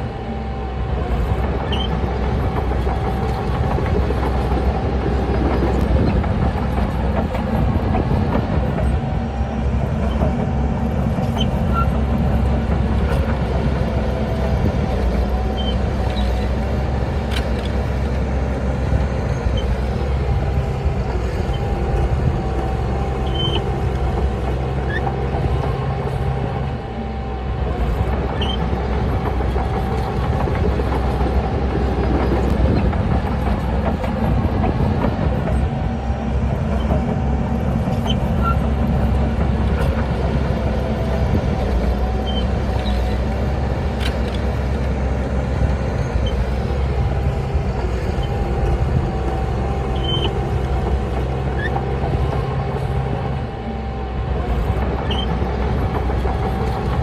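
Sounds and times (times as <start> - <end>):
bulldozer diesel engine rumble: 0.0 - 57.0.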